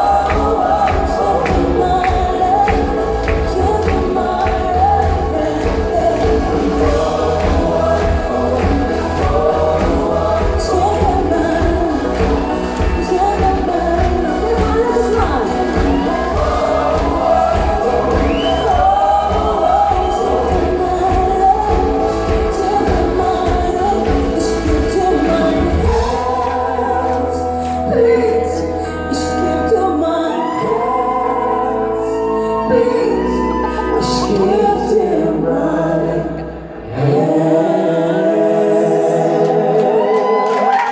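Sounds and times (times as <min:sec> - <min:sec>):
held bass notes: 0:00.0 - 0:37.7
people singing: 0:00.0 - 0:40.9
pop band with steady beat: 0:00.0 - 0:40.9.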